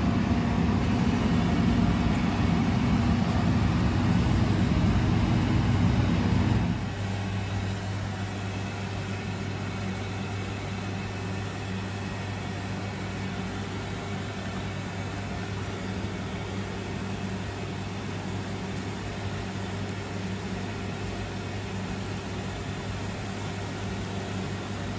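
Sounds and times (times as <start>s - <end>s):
gas burner and ventilation hum: 0.0s - 24.9s.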